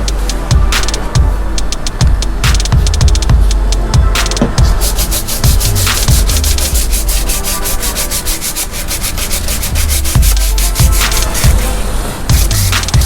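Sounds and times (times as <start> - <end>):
music with heavy bass: 0.0 - 13.0
rhythmic sanding scrubbing: 0.0 - 13.0.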